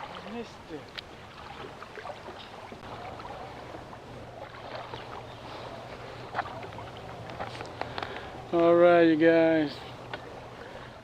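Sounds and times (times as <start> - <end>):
water lapping against a hull: 0.0 - 11.0.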